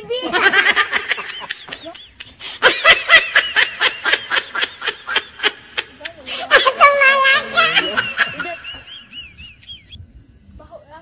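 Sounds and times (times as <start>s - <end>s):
person laughing: 0.4s - 10.0s.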